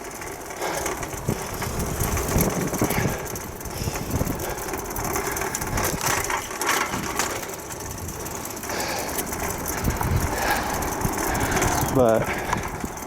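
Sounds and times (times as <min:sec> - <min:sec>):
bicycle rolling on pavement: 0:00.0 - 0:13.0
wind buffeting microphone: 0:00.0 - 0:13.0.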